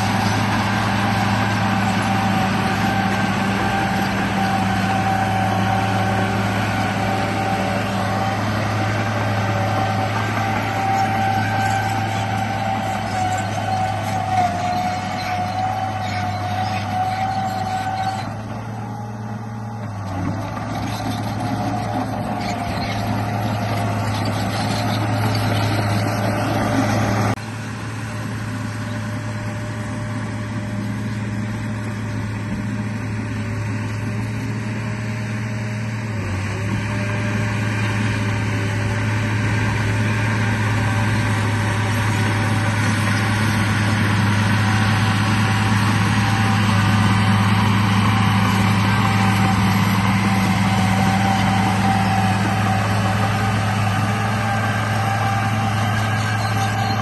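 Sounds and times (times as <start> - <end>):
bulldozer engine droning: 0.0 - 57.0.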